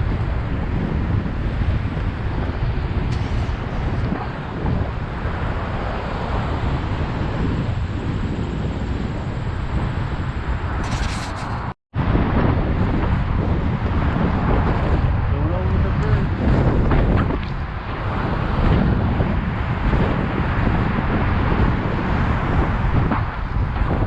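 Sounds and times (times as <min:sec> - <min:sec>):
road traffic: 0:00.0 - 0:24.0
wind buffeting microphone: 0:00.0 - 0:24.0.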